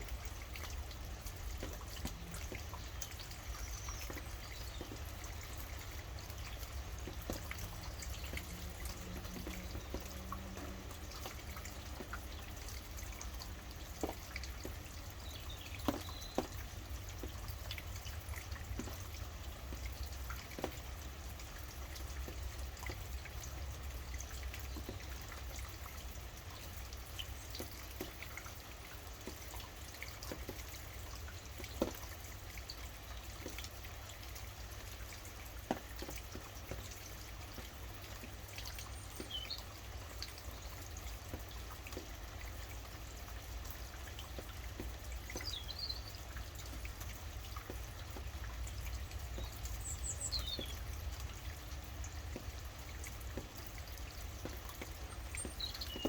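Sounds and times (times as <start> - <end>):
rain dripping and pattering: 0.0 - 56.0.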